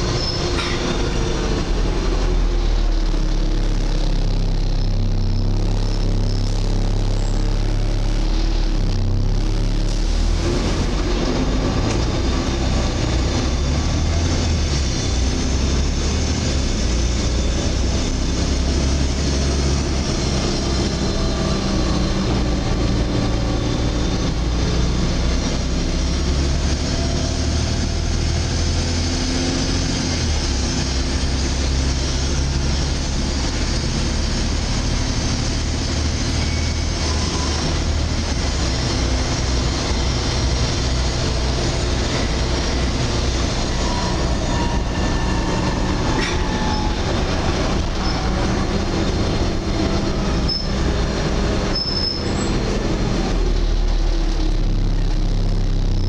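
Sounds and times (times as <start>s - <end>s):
bus diesel engine droning: 0.0s - 56.0s
road noise: 0.0s - 56.0s.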